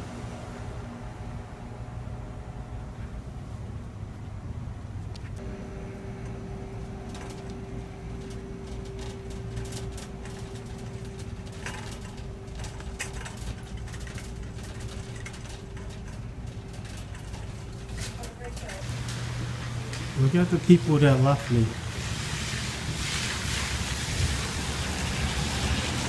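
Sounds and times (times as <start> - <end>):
low hum: 0.0 - 26.0
traffic rumble: 0.0 - 26.0
rain ticking: 5.1 - 26.0.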